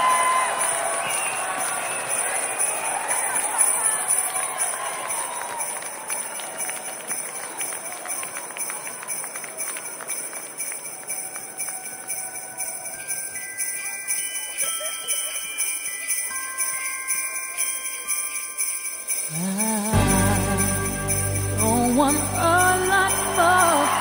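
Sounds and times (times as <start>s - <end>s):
sleigh bells jingling: 0.0s - 24.0s.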